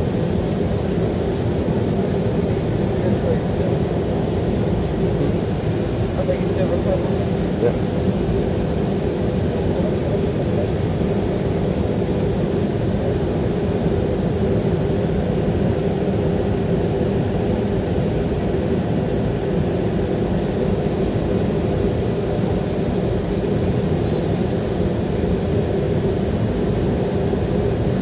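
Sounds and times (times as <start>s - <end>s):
jet engines droning at low power: 0.0s - 28.0s.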